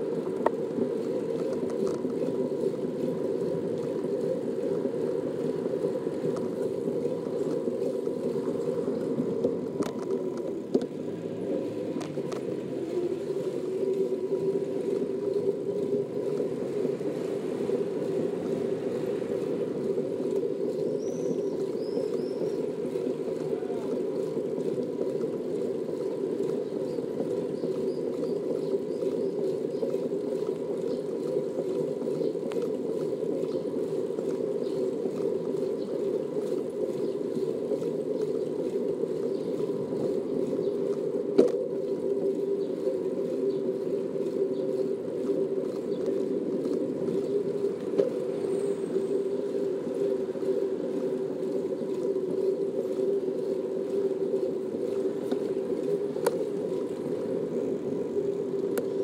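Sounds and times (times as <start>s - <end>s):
bicycle tyres rolling on asphalt: 0.0s - 59.0s.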